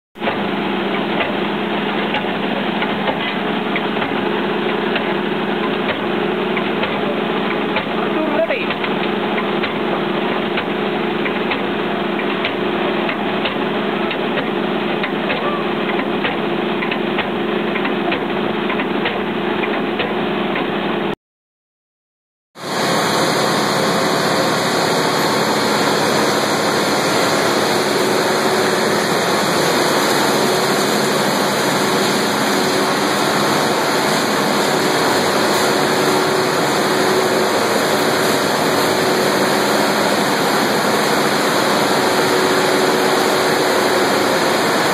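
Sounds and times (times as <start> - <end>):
roots knocking in hopper: 0.2 - 20.8, 22.7 - 44.9
motor hum: 0.2 - 21.1, 22.6 - 44.9
centrifuges and pumps droning: 0.2 - 21.2, 22.6 - 44.9.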